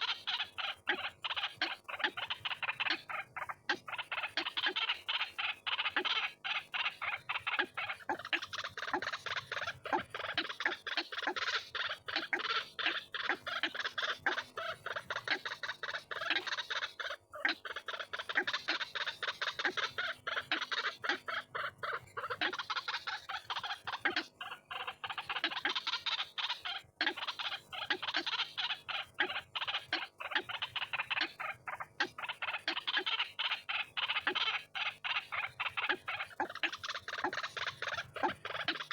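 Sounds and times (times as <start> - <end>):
waterhen croaking calls: 0.0 - 38.9.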